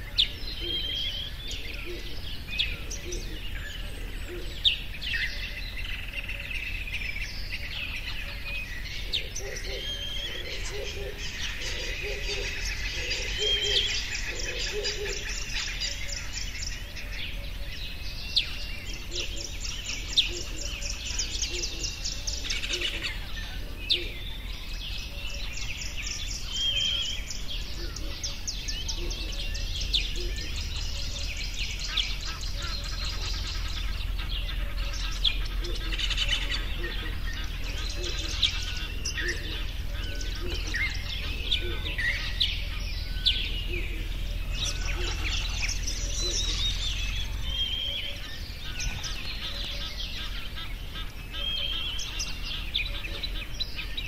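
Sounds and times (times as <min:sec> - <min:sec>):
small birds chirping and trilling: 0:00.0 - 0:54.0.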